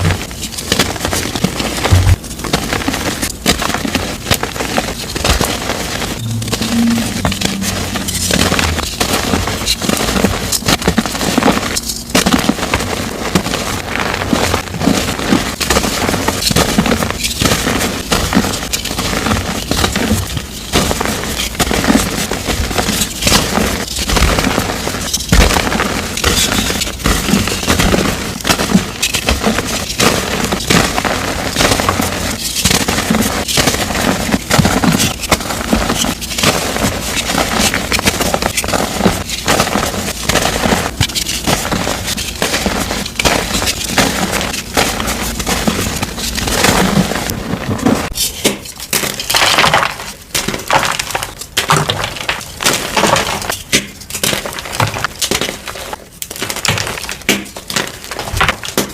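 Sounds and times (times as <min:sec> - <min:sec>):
chalk crunching and crackling: 0:00.0 - 0:58.9.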